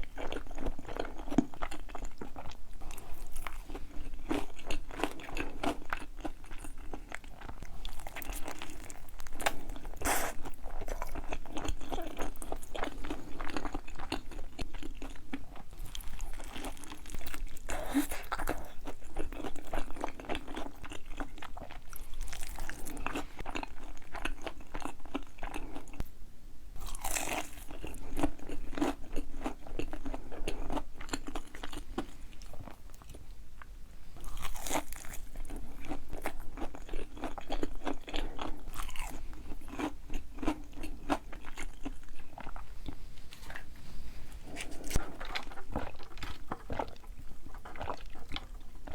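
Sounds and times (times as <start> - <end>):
person chewing crunchy food: 0.0 - 26.1, 26.8 - 33.3, 34.2 - 48.9.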